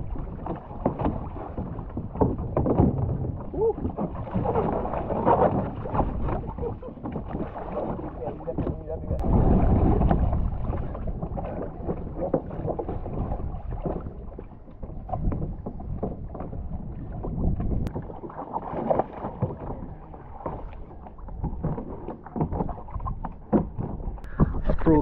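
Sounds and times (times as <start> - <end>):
water splashing around kayak: 0.0 - 25.0.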